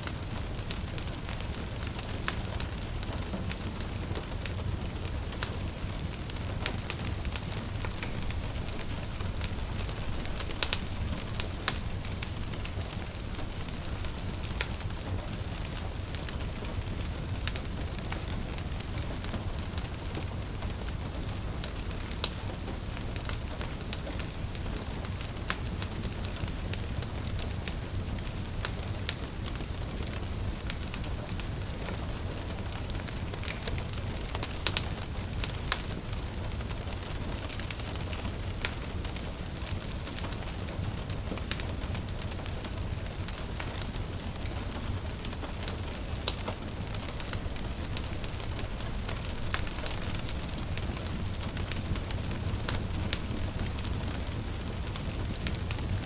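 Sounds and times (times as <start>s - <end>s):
low rumble of flames: 0.0s - 56.0s
rain falling on a window: 0.0s - 56.0s
wood fire crackling and popping: 0.0s - 56.0s.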